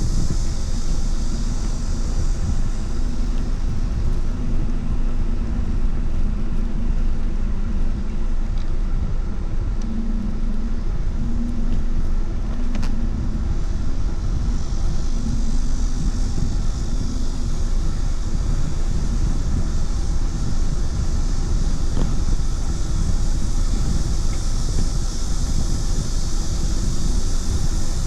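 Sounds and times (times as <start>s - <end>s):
low hum: 0.0s - 28.0s
road rumble: 0.0s - 28.0s
wind on microphone: 0.0s - 28.0s.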